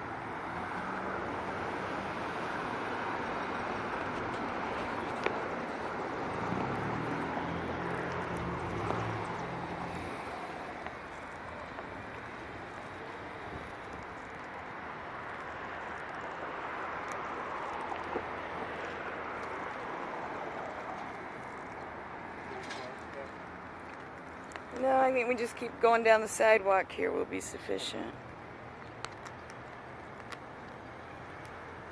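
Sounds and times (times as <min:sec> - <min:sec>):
street traffic: 0:00.0 - 0:31.9
vehicle engine hum: 0:00.0 - 0:31.9.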